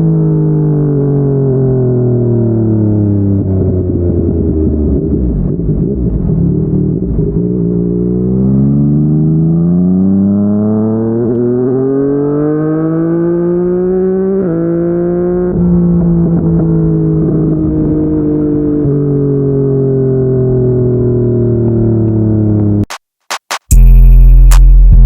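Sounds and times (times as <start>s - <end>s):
motorcycle engine accelerating: 0.0s - 23.0s, 23.7s - 25.0s.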